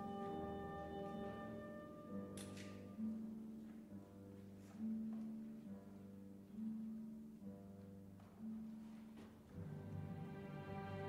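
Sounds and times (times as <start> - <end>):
soft classical music: 0.0 - 11.0.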